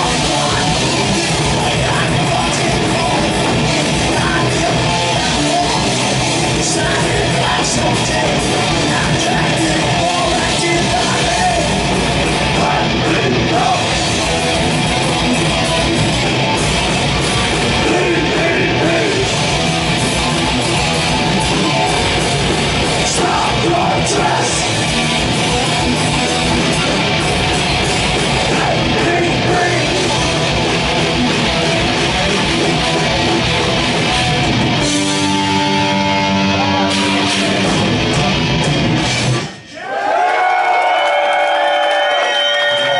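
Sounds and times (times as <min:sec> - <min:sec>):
thrash metal band playing: 0:00.0 - 0:39.7.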